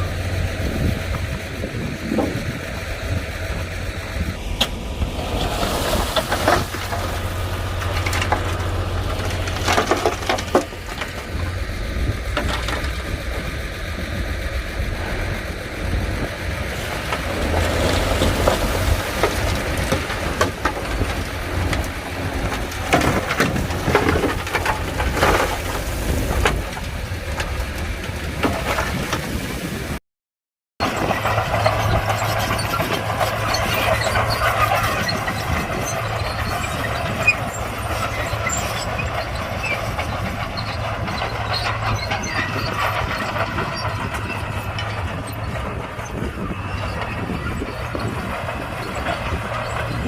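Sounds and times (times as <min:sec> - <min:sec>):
bulldozer tracks and blade clanking: 0:00.0 - 0:30.0, 0:30.8 - 0:50.0
diesel engine rumble: 0:00.0 - 0:30.0, 0:30.8 - 0:50.0.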